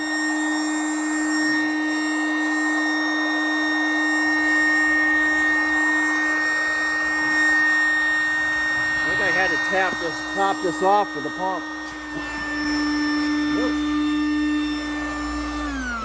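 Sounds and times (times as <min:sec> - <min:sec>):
air compressor whining: 0:00.0 - 0:16.0.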